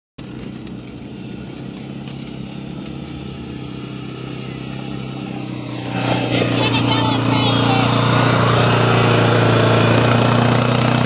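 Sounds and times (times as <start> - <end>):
car engine running: 0.2 - 11.0.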